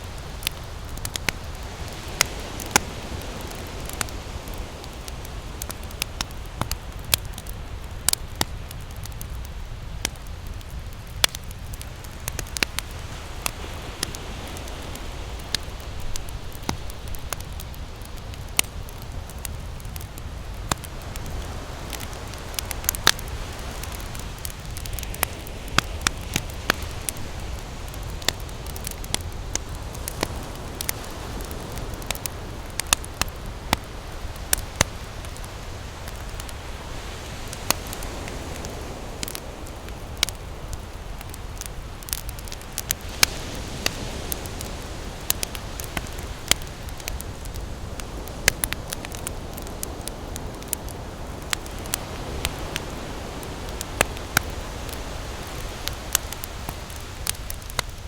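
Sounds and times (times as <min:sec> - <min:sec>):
campfire crackling and popping: 0:00.0 - 0:58.0
ocean surf rumble: 0:00.0 - 0:58.0.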